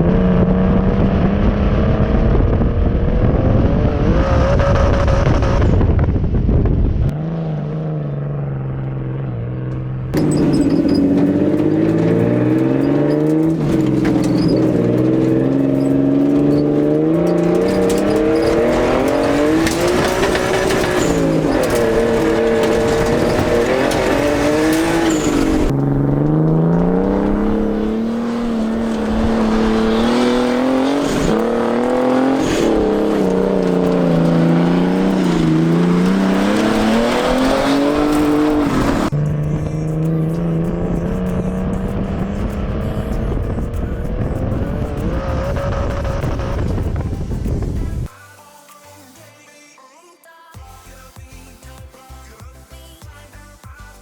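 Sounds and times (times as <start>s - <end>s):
car engine revving: 0.0s - 48.1s.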